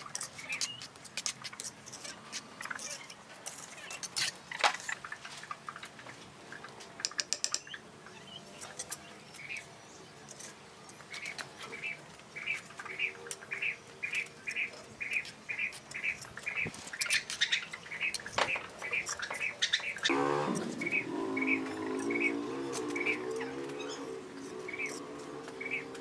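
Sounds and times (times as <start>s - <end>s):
small bird chirping: 0.0s - 26.0s.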